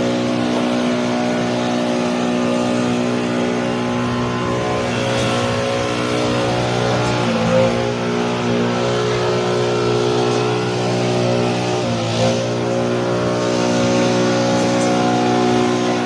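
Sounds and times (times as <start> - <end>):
grass cutter engine running: 0.0 - 16.0.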